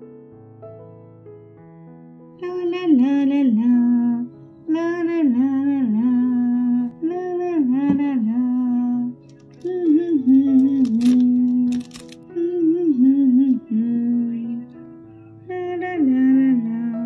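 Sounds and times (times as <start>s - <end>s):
hummed melody: 2.4s - 17.0s
soft backing tones: 2.4s - 17.0s.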